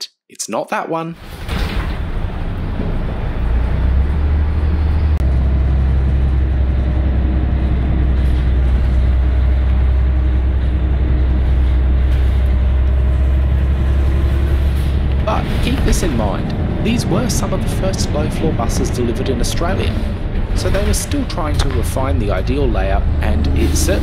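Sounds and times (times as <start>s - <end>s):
diesel bus engine rumbling: 1.4s - 24.0s.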